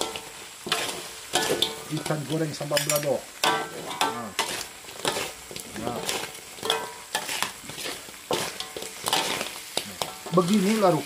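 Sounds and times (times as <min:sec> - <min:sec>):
frying sizzle: 0:00.0 - 0:11.0
metal utensils scraping a wok: 0:00.0 - 0:11.0.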